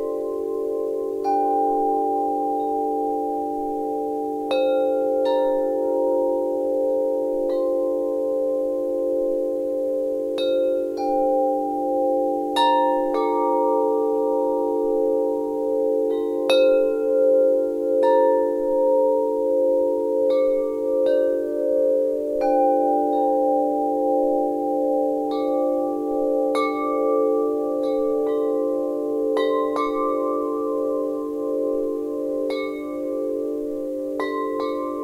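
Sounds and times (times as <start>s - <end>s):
wind chimes ringing: 0.0s - 35.0s.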